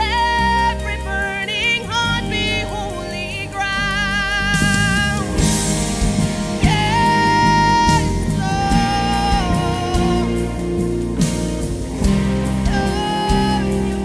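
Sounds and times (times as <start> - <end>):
backing band: 0.0 - 14.0
person singing with vibrato: 0.0 - 14.0.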